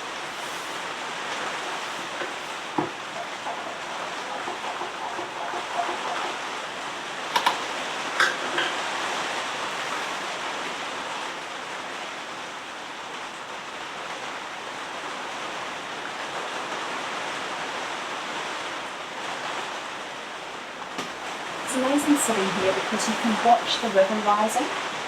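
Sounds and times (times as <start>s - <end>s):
heavy rain: 0.0s - 25.0s
river rushing in flood: 0.0s - 25.0s.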